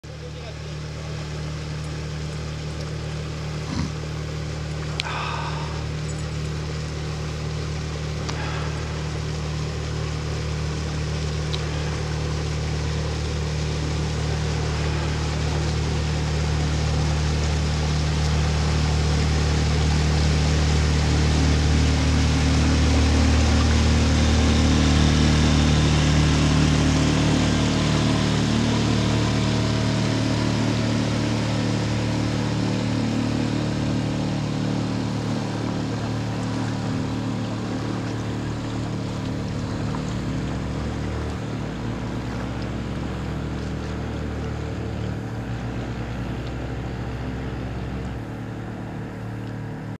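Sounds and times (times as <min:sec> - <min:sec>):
outboard motor droning: 0:00.0 - 0:50.0.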